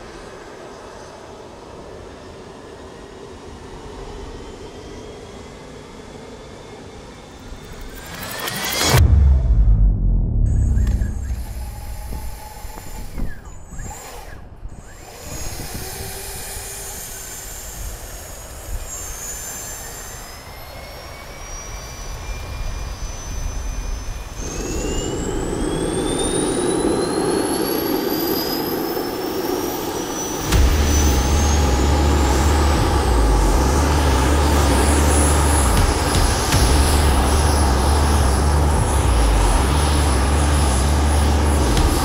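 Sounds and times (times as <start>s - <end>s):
engine and air rush: 0.0s - 42.0s
jet engine spooling up: 0.0s - 42.0s.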